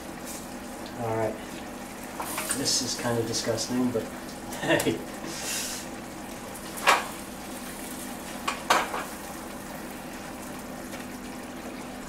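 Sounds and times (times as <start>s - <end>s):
sizzling in pans: 0.0s - 12.0s.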